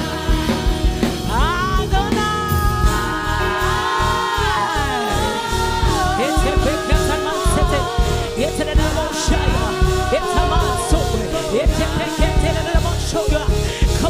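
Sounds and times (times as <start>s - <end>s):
band playing low pulse: 0.0s - 14.0s
gospel singing: 0.0s - 14.0s.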